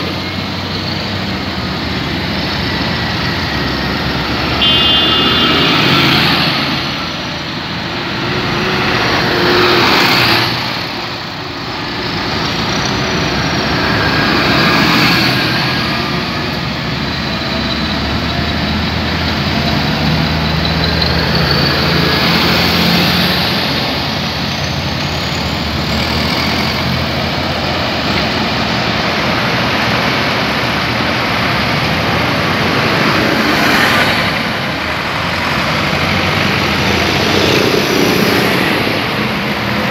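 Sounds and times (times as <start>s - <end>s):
tractors driving past: 0.0s - 39.9s
tyres rolling on road: 0.0s - 39.9s.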